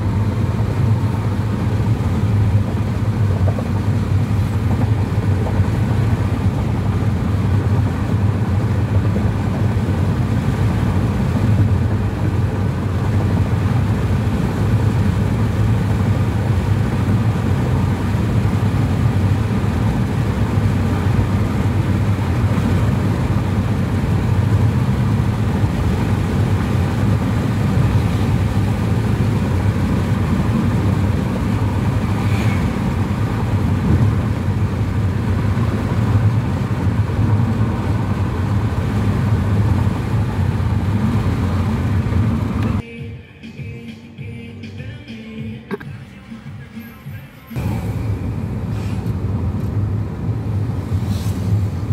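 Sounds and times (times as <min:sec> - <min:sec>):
tyre noise on concrete road: 0:00.0 - 0:42.9, 0:43.7 - 0:51.9
car engine hum: 0:00.0 - 0:51.9.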